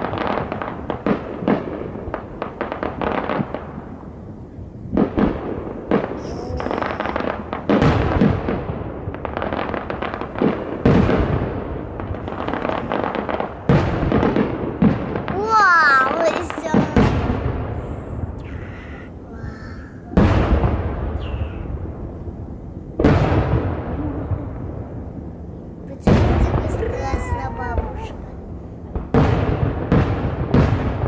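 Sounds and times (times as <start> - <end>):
fireworks bangs and crackle: 0.0 - 31.0
loud fireworks booms: 0.0 - 31.0.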